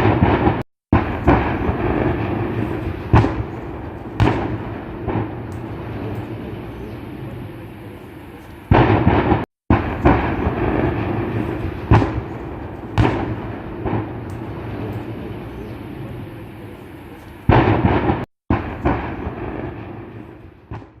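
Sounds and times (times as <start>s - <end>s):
fire rumbling roar: 0.0s - 20.5s
explosion bangs: 0.0s - 21.0s.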